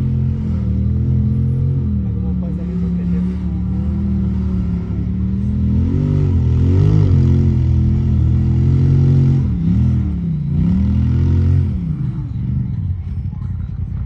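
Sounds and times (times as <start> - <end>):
jeep engine revving: 0.0 - 14.0.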